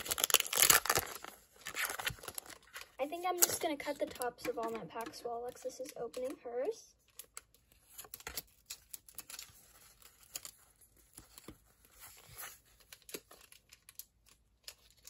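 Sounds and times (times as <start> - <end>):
cards crinkling: 0.0 - 15.0
trading cards rustling and clicking: 0.0 - 15.0.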